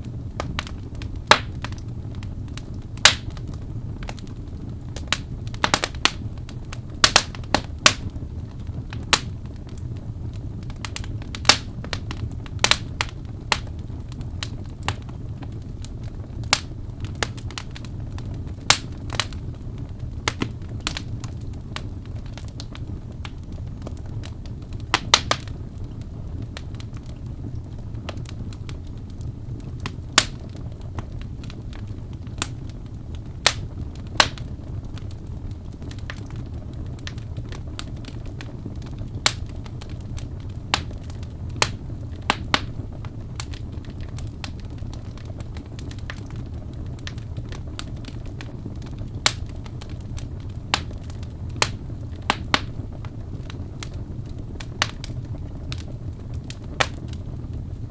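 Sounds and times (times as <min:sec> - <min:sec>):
fireplace wood crackling: 0:00.0 - 0:57.9
low fire rumble: 0:00.0 - 0:57.9.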